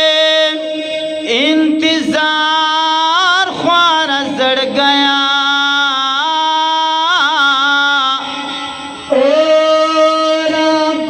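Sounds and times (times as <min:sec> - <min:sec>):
men singing unaccompanied: 0:00.0 - 0:08.5, 0:09.1 - 0:11.0.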